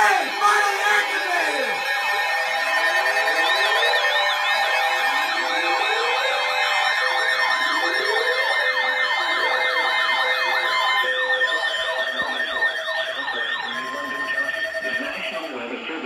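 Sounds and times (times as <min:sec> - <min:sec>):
falling siren wails: 0:00.0 - 0:15.0
steady siren tones: 0:00.0 - 0:15.4.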